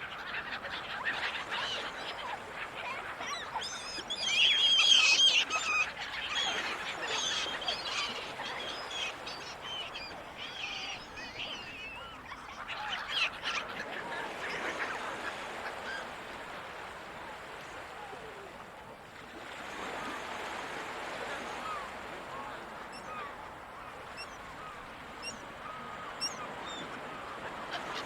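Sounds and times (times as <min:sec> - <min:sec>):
sea noise: 0:00.0 - 0:28.0
gulls calling: 0:00.1 - 0:16.8, 0:21.0 - 0:28.0.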